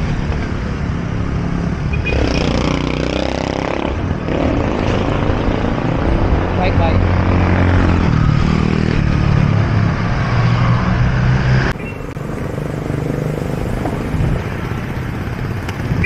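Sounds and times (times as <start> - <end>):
quieter street traffic: 0.0 - 16.0
road noise rushing: 0.0 - 16.0.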